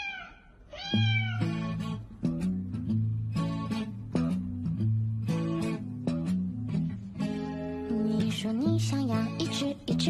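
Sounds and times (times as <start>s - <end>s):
strummed guitar and bass music: 1.2s - 10.0s.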